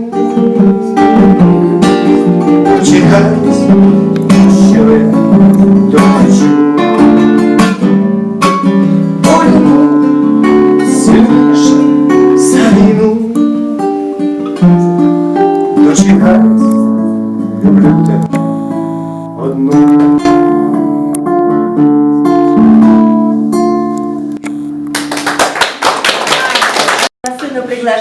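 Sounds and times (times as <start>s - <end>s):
acoustic guitar strumming: 0.0s - 25.5s.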